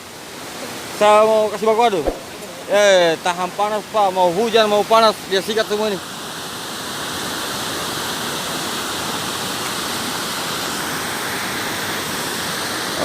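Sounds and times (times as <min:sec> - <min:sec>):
water pouring through a dam: 0:00.0 - 0:13.0.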